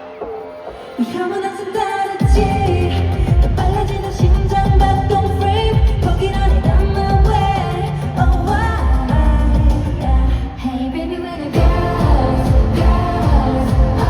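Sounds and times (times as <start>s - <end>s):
pop song with female singing: 0.0s - 14.0s.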